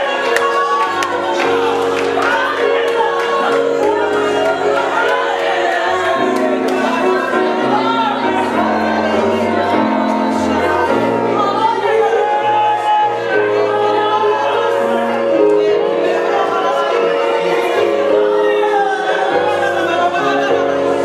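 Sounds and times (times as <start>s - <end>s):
sung vocals: 0.0s - 21.0s
sustained instrumental chords: 0.0s - 21.0s.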